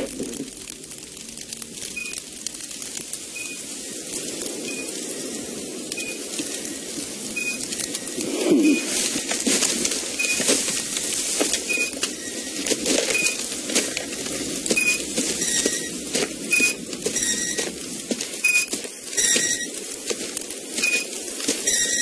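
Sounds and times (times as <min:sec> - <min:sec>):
dry grass rustling: 0:00.0 - 0:22.0.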